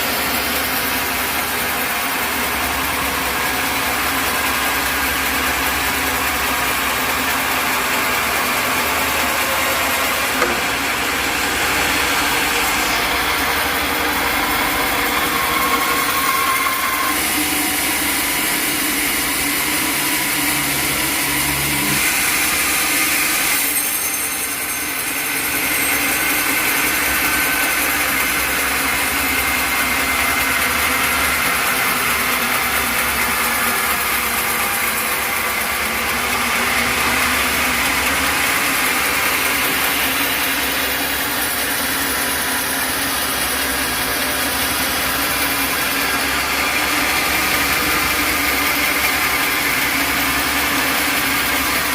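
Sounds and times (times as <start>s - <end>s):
high-pitched saw noise: 0.0s - 51.9s.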